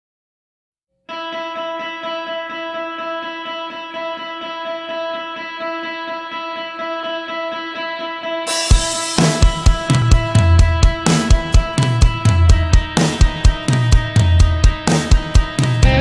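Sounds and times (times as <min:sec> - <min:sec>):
fast picked guitar music: 0:01.1 - 0:16.0.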